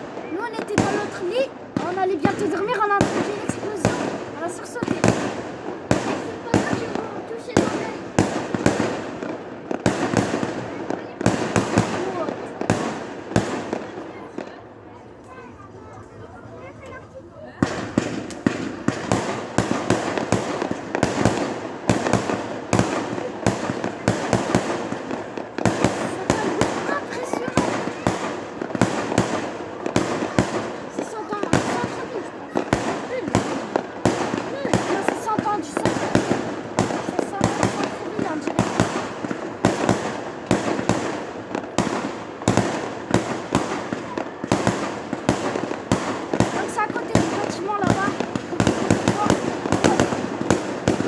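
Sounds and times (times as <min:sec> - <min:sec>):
firework crackling: 0:00.0 - 0:51.0.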